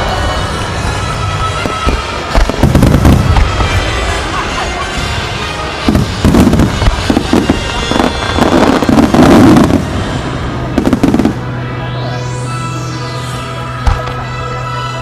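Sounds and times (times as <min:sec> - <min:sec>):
fireworks bursting: 0:00.0 - 0:12.2, 0:13.8 - 0:14.8.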